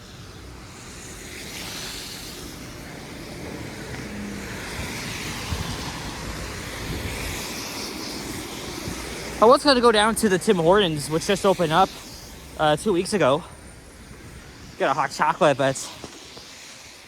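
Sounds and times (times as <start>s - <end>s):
low traffic rumble: 0.0s - 17.0s
tyres hissing on snowy street: 0.0s - 17.0s.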